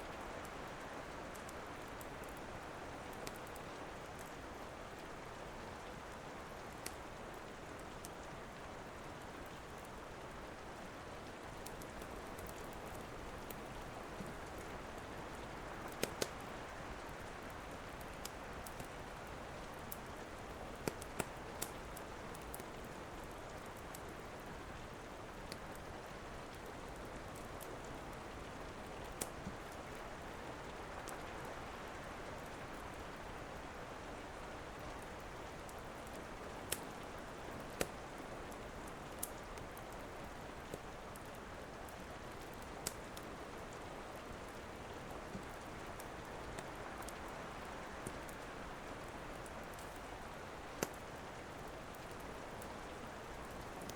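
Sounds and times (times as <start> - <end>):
steady rain: 0.0 - 53.9
wood fire crackling: 0.4 - 53.9.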